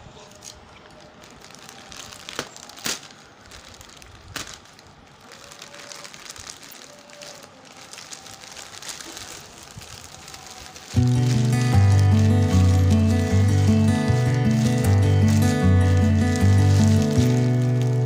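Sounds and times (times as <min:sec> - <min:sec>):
plastic crinkling: 0:00.2 - 0:18.0
plastic bag ripping: 0:00.3 - 0:18.0.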